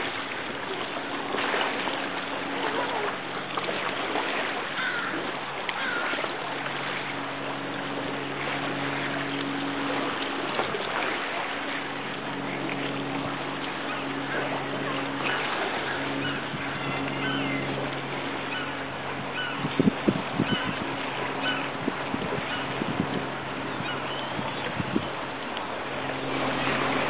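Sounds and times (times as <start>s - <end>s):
low engine hum: 0.0s - 27.0s
wind and water noise: 0.0s - 27.0s.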